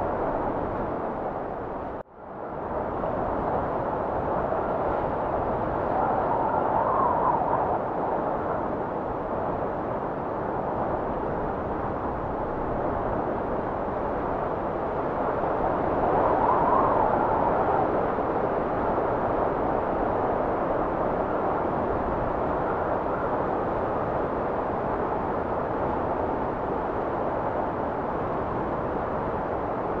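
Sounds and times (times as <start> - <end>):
wind blowing: 2.6 - 30.0.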